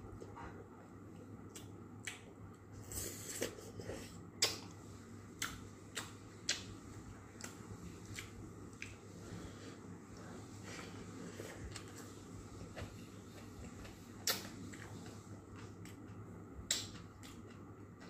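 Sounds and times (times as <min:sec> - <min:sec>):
person chewing with wet smacks: 0:00.1 - 0:09.3, 0:10.1 - 0:18.0.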